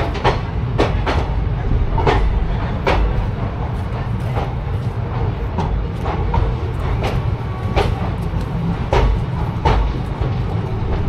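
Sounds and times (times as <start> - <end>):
train rumbling: 0.0 - 11.0
wheels clacking over rail joints: 0.0 - 11.0.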